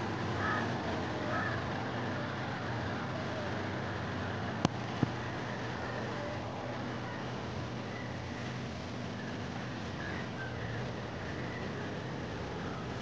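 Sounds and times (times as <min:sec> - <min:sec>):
distant traffic: 0:00.0 - 0:13.0.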